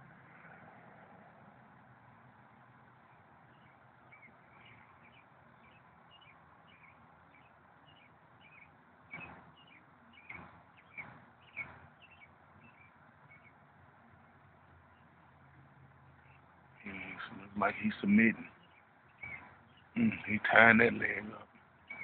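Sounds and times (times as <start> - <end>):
birds chirping: 2.9 - 22.0.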